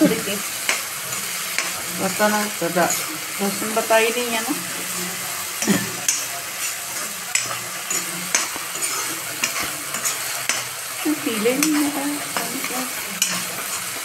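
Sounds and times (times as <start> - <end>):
gravy sizzling in hot oil: 0.0 - 14.0
spatula scraping a pan: 0.0 - 14.0.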